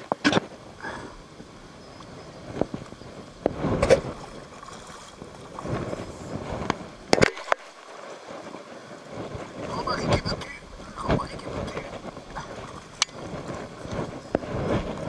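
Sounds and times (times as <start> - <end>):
low rough noise: 0.0 - 15.0.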